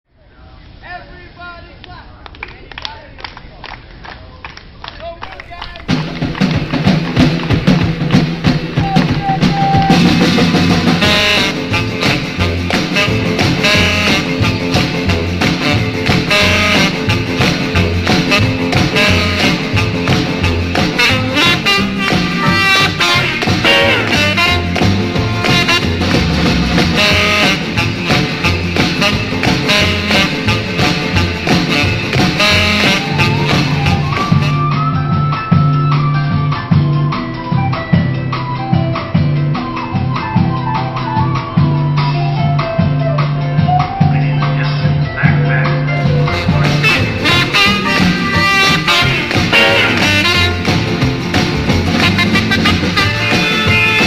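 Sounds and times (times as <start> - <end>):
upbeat band music: 5.2 - 54.0.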